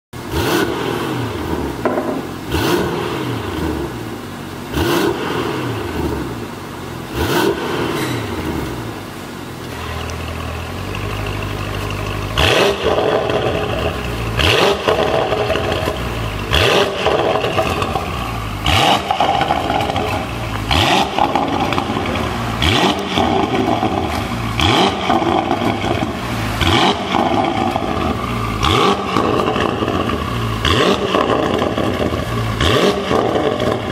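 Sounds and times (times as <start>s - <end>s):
car engine idling: 0.2s - 33.9s
car engine revving: 0.2s - 33.9s.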